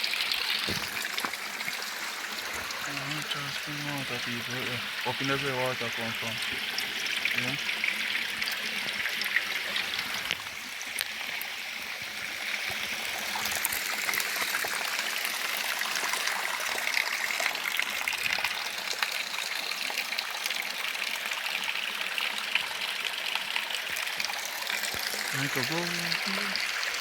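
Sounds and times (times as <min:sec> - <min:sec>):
water trickling over rocks: 0:00.0 - 0:27.0.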